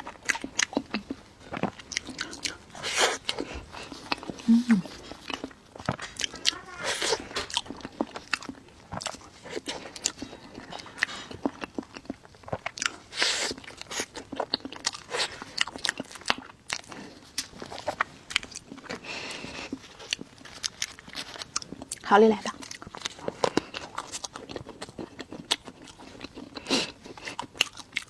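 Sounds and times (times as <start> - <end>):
chewing and biting: 0.0 - 28.0.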